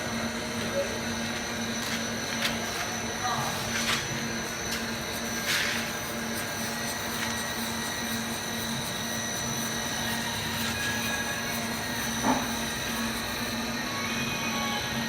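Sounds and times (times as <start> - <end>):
lathe hum and high whine: 0.0 - 15.0.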